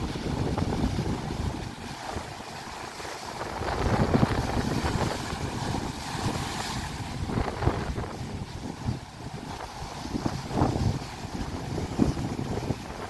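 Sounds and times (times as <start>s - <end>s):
sea waves breaking over boulders: 0.0s - 13.0s
wind buffeting microphone: 0.0s - 13.0s.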